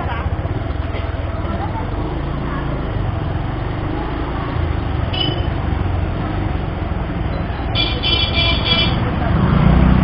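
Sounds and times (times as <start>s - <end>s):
motorcycle engine low rumble: 0.0s - 10.0s.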